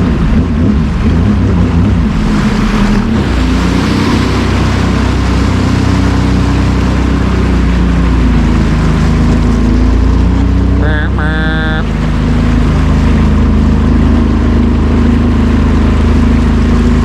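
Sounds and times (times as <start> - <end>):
water rushing: 0.0 - 17.0
watercraft engine running: 0.0 - 17.0.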